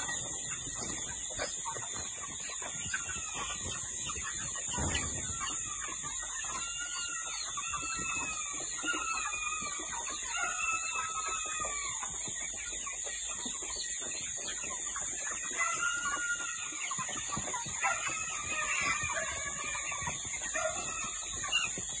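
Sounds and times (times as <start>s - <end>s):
chickens calling: 0.0s - 22.0s.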